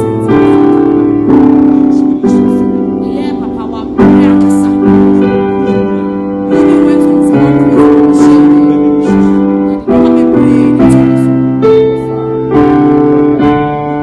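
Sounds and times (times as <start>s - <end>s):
slow keyboard chords: 0.0s - 14.0s.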